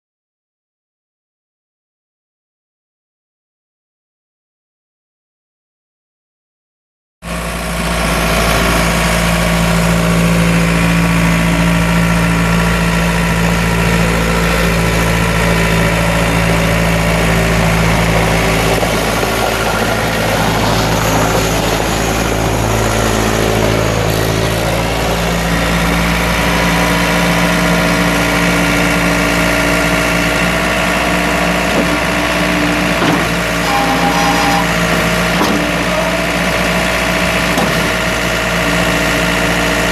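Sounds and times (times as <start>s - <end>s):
diesel engine idling: 7.3s - 39.9s.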